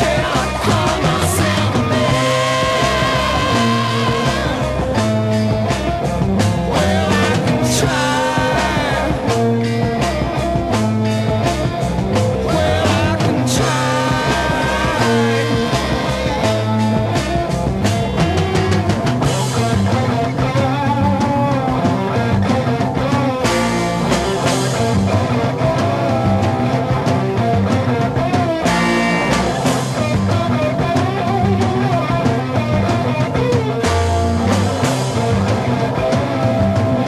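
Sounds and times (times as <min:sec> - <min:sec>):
gliding lead guitar line: 0:00.0 - 0:37.0
psychedelic rock band instrumental: 0:00.0 - 0:37.0.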